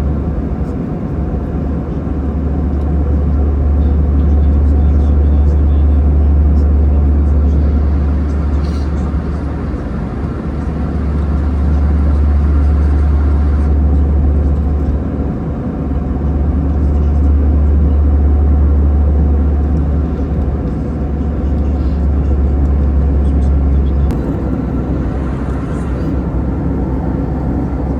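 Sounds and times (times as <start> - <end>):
airplane cabin drone: 0.0 - 27.9
low hum: 2.7 - 15.0, 16.1 - 27.9.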